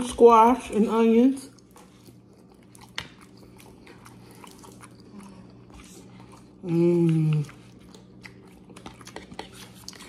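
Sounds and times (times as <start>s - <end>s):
faint low hum: 0.0s - 10.0s
person chewing food: 1.4s - 10.0s.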